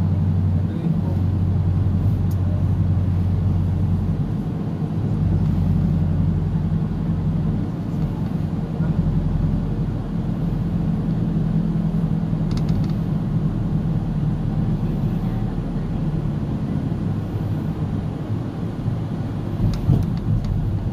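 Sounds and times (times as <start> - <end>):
car road and engine rumble: 0.0 - 20.9.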